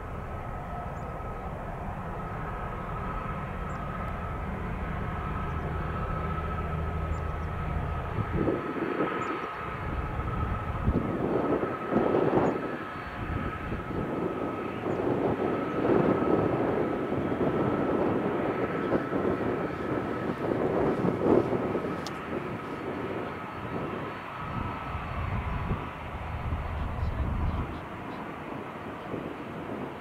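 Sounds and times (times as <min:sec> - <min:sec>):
jet engines at takeoff thrust: 0:00.0 - 0:30.0.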